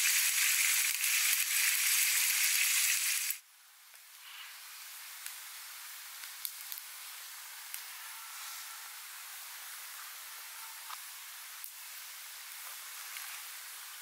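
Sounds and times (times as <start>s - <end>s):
food sizzling in a pan: 0.0s - 3.4s, 4.2s - 14.0s.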